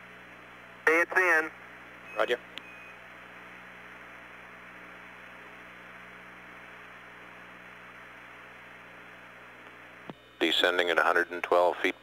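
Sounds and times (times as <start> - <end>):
radio hiss and hum: 0.0 - 12.0.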